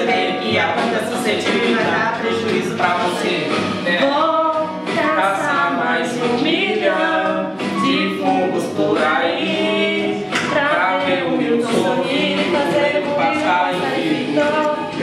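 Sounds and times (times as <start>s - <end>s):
man and woman singing: 0.0s - 15.0s.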